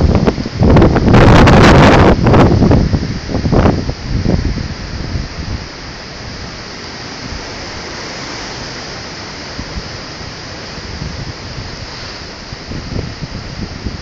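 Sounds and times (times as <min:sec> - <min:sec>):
strong wind rushing: 0:00.0 - 0:14.0
wind buffeting microphone: 0:00.0 - 0:14.0.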